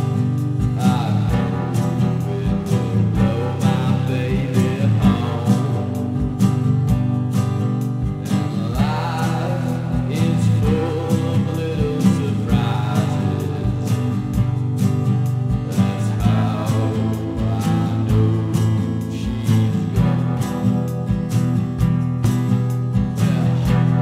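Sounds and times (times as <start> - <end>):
guitar song with steady beat: 0.0 - 24.0.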